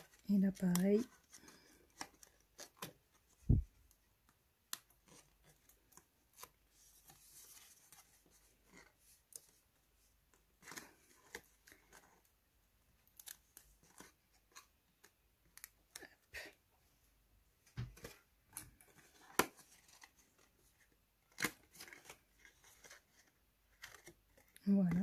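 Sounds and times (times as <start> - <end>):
paper clicks and rustles: 0.0 - 16.6, 17.7 - 25.0.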